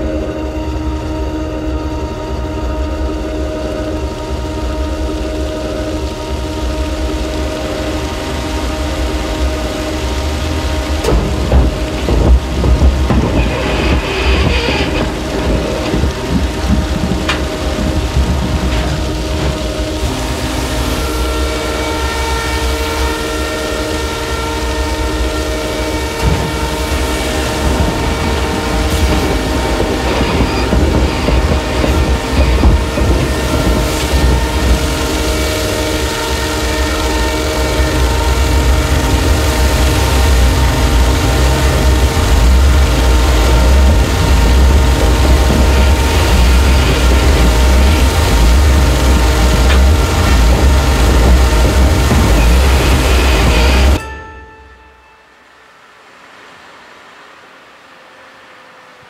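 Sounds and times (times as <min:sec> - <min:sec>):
loud low rumble: 0:00.0 - 0:54.0
dense noise drone: 0:00.0 - 0:59.0
steady hum: 0:00.0 - 0:59.0
sustained tones: 0:00.0 - 0:59.0
hiss: 0:04.9 - 0:54.0.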